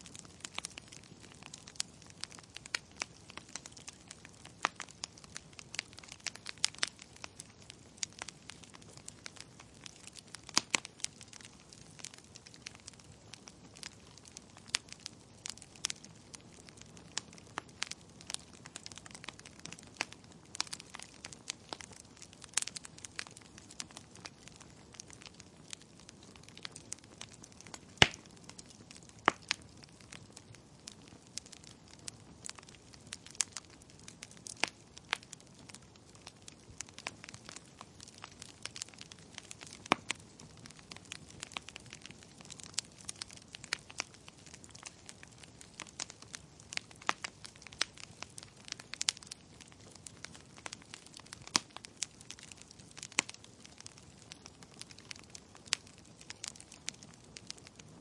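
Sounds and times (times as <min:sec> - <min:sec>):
soft steady hiss: 0:00.0 - 0:58.0
wood fire crackling and popping: 0:00.0 - 0:58.0.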